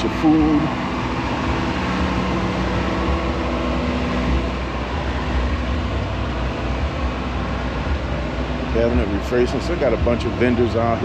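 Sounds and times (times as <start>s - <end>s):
heavy low rumble: 0.0s - 11.0s.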